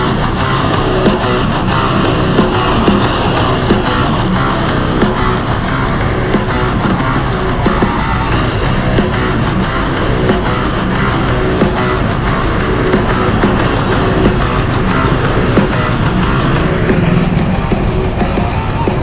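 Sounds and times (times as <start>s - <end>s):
heavy rock music: 0.0s - 19.0s.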